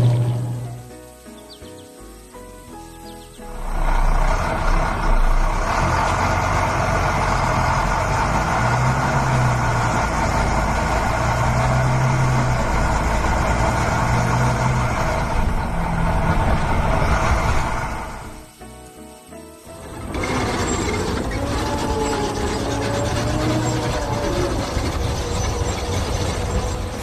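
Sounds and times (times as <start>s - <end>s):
heavy truck engine running: 0.0s - 27.0s.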